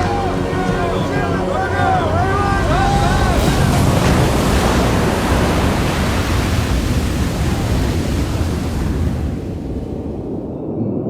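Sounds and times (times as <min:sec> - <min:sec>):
waves breaking: 0:00.0 - 0:10.5
storm wind rushing: 0:00.0 - 0:11.0.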